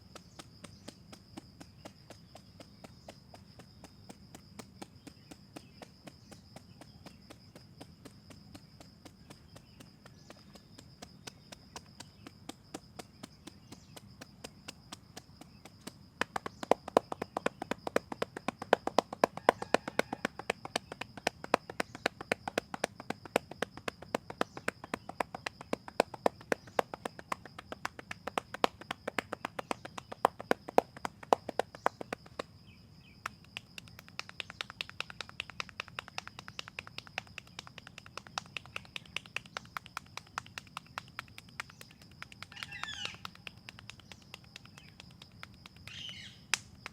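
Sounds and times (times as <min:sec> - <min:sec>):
hands tapping on head: 0:03.0 - 0:32.5, 0:33.2 - 0:45.9.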